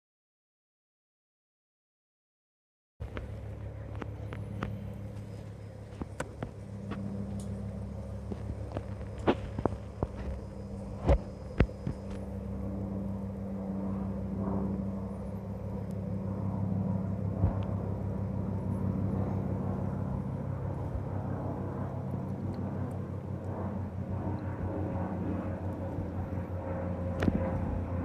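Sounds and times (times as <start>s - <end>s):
helicopter rotor chop: 3.0s - 28.0s
low engine hum: 3.0s - 28.0s.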